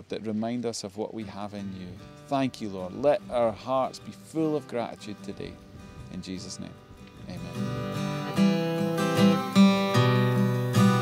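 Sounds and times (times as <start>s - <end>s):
acoustic guitar strumming chords: 1.2s - 11.0s.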